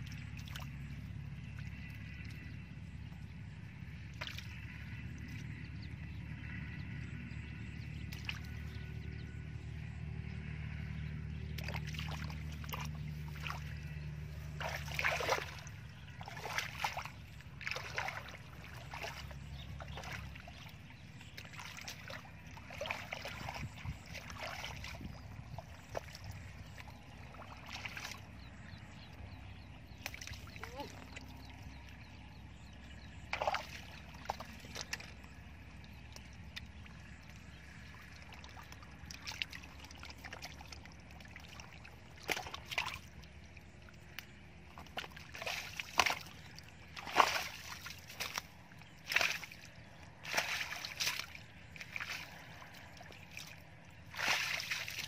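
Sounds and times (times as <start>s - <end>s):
splashing in muddy water: 0.0s - 2.6s, 3.8s - 5.6s, 7.8s - 9.2s, 10.5s - 55.0s
steady low drone: 0.0s - 55.0s.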